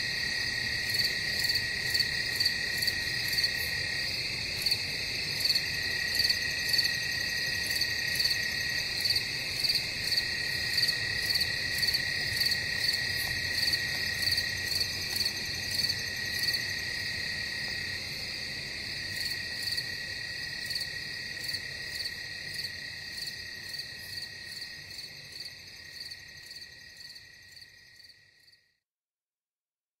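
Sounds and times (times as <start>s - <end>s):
insects and frogs trilling: 0.0s - 28.8s.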